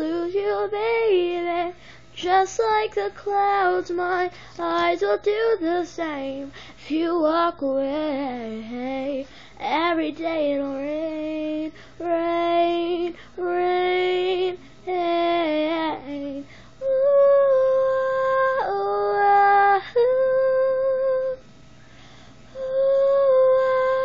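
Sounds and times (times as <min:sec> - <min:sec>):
girl singing long held notes: 0:00.0 - 0:21.4, 0:22.5 - 0:24.0.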